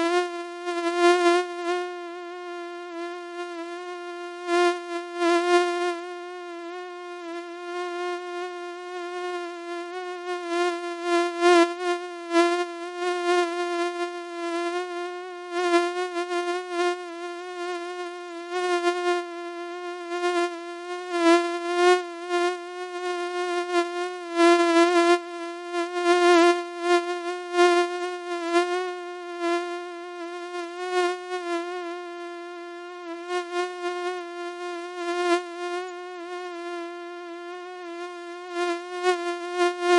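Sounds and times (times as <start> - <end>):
mosquito wing whine: 0.0 - 39.9.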